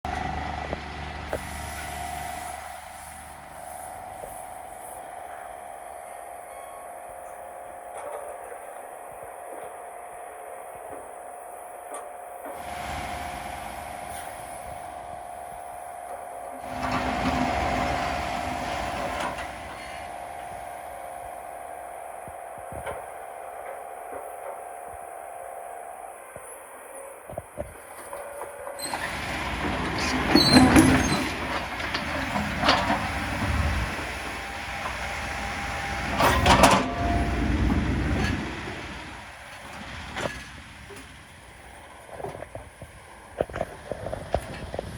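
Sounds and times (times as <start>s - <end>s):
excavator running with whine: 0.0s - 44.9s.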